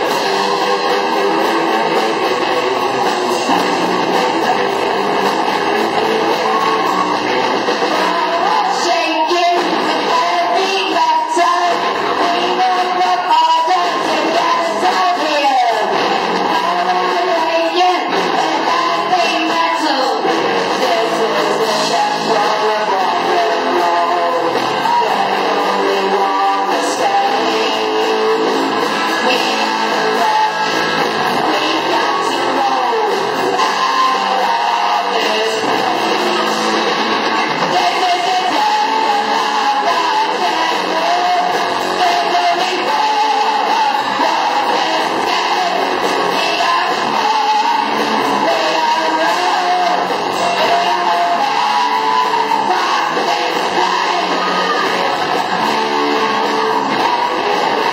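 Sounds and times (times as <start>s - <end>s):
electric guitar: 0.0s - 57.9s
person singing: 0.0s - 57.9s
rock band playing live: 0.0s - 57.9s.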